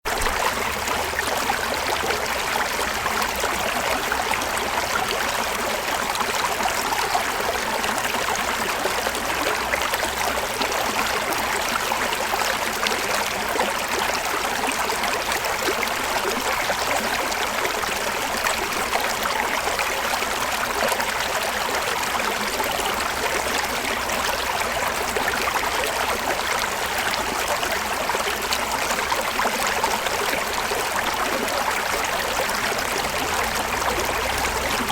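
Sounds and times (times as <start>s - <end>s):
river water flowing over rocks: 0.1s - 34.9s.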